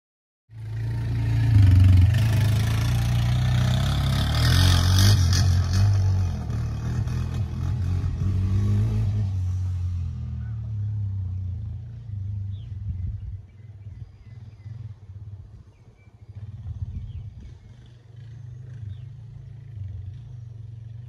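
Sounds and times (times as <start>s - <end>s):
off-road vehicle engine driving away: 0.5s - 21.0s.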